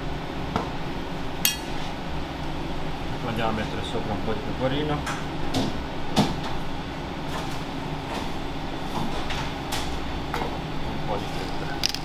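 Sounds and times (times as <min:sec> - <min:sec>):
kitchen background hum: 0:00.0 - 0:12.0.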